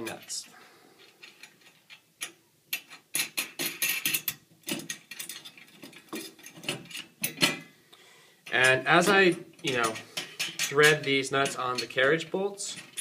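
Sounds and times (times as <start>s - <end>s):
nuts and bolts clicking and clinking: 0.0s - 7.8s, 8.4s - 13.0s.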